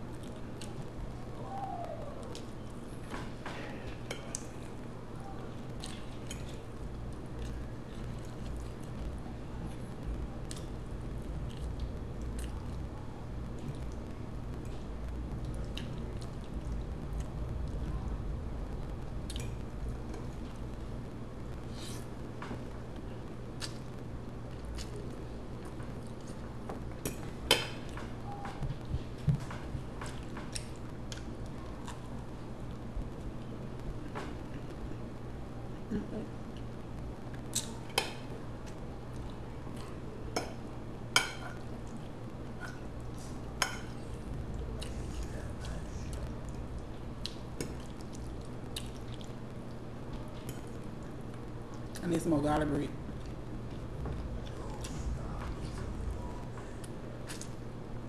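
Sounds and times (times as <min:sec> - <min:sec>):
low hum: 0:00.0 - 0:52.0, 0:52.6 - 0:58.0.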